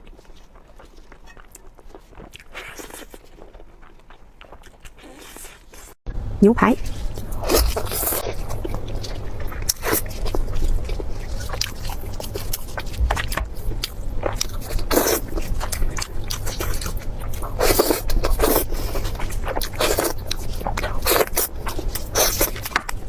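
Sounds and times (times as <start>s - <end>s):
chewing food: 0.0s - 6.0s, 6.8s - 23.0s.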